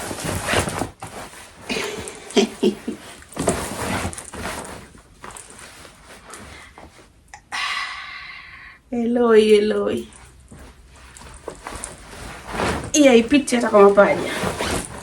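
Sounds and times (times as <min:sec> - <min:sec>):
clothing rustling: 0:00.0 - 0:07.3, 0:09.5 - 0:15.0.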